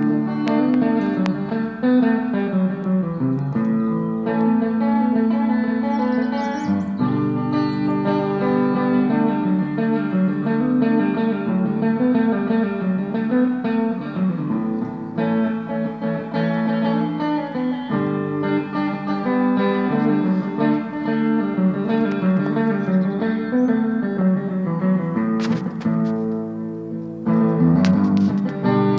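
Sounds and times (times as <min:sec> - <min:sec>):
plucked and strummed guitar: 0:00.0 - 0:28.9.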